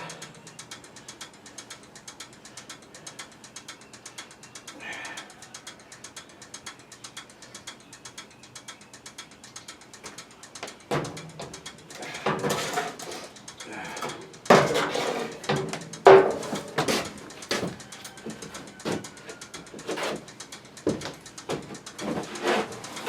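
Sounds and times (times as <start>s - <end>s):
ratchet wrench clicking: 0.0s - 23.0s.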